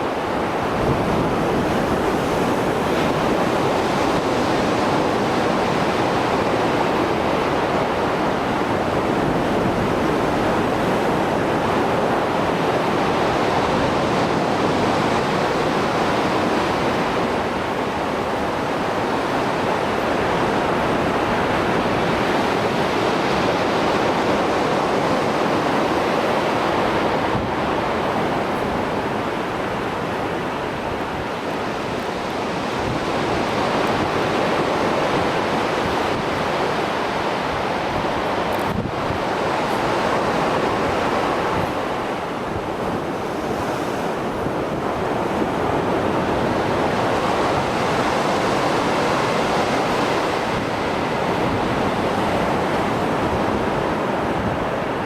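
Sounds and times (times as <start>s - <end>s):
waves breaking ashore: 0.0s - 55.0s
wind buffeting microphone: 0.0s - 55.0s.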